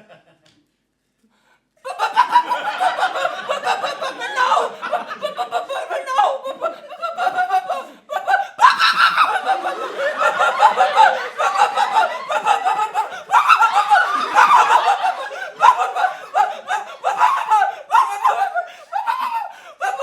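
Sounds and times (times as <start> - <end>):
people laughing loudly: 1.9 - 20.0.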